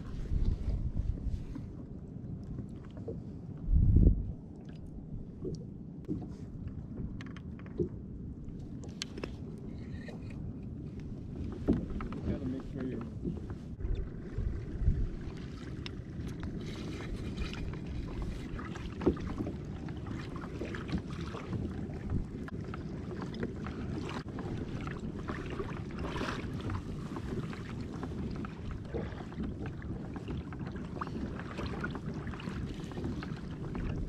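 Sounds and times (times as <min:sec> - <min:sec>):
kayak pedal drive rumbling: 0:05.0 - 0:34.0.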